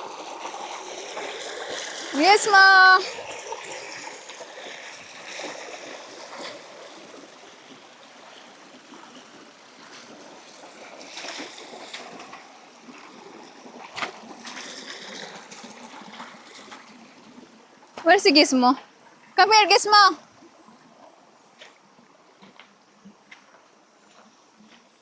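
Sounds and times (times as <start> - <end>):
river water running and splashing: 0.0 - 25.0.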